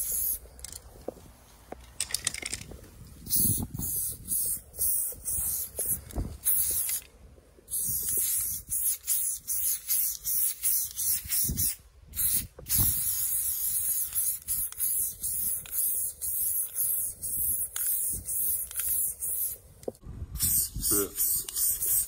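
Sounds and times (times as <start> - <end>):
spray paint can hissing: 0.0 - 0.5, 3.2 - 7.1, 7.7 - 19.6, 20.4 - 22.0.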